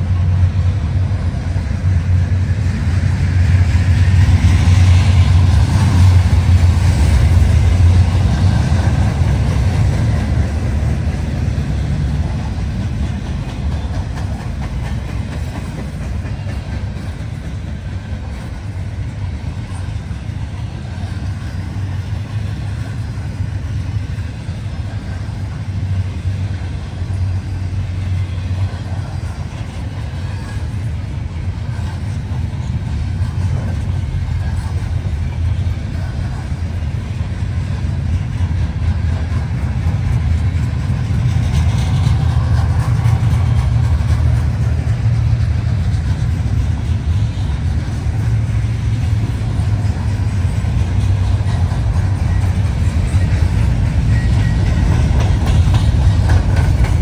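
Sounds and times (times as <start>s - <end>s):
train rumbling by: 0.0s - 57.0s.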